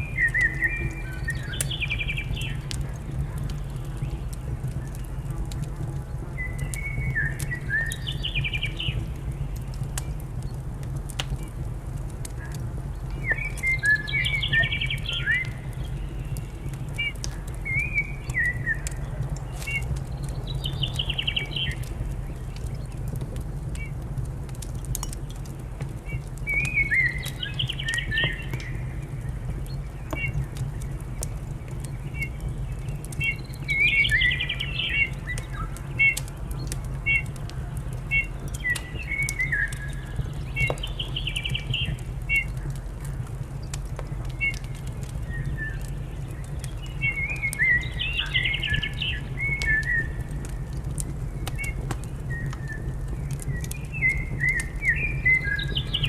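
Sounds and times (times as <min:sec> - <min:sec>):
songbird singing: 0:00.0 - 0:56.0
wood fire crackling and popping: 0:00.0 - 0:56.0.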